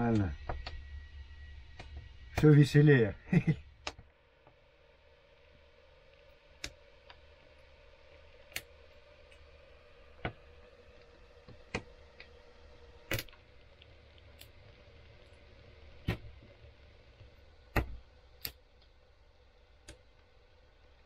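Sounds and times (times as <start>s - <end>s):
faint steady tone: 0.0s - 21.0s
wood fire crackling: 0.0s - 21.0s.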